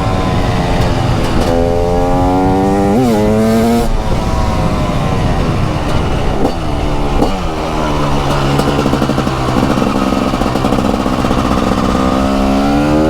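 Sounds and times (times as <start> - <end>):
gear change: 0.0 - 13.0
motorcycle engine revving: 0.0 - 13.0.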